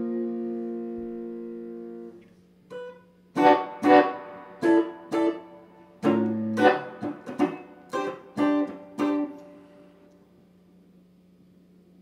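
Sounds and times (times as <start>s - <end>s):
electric guitar strumming chords: 0.0s - 10.2s
pedal hum: 0.0s - 12.0s.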